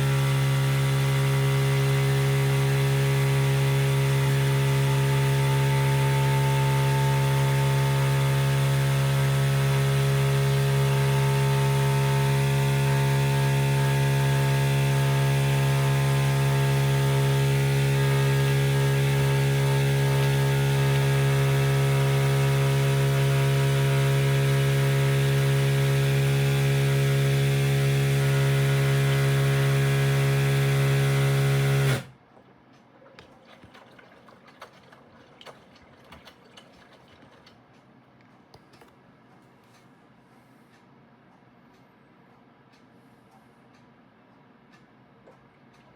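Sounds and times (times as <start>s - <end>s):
water pump buzzing hum: 0.0s - 37.8s.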